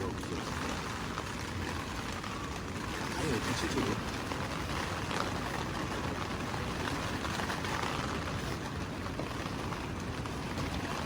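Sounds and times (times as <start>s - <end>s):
rushing water: 0.0s - 9.6s
wind: 0.0s - 11.0s.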